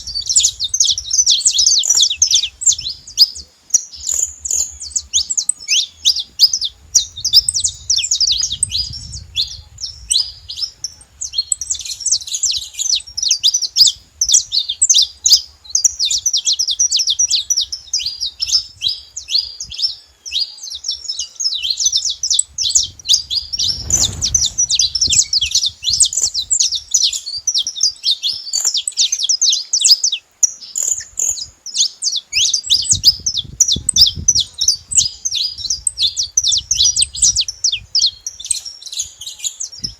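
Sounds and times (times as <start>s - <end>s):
finch singing chirps and trills: 0.0s - 39.9s.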